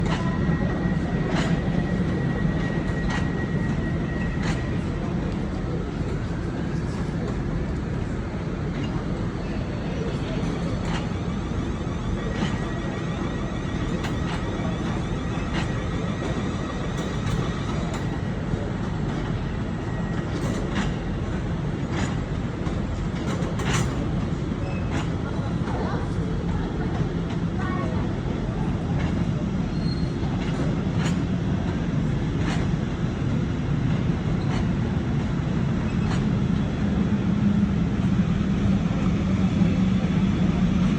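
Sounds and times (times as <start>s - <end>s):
train rumbling on track: 0.0s - 40.9s.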